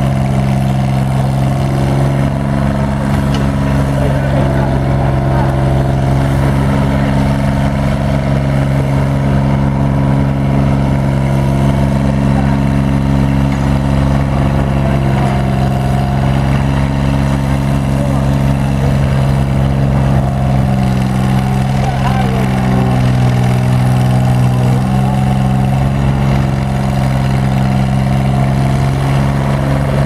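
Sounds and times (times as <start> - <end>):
cable shovel engine running: 0.0 - 30.0.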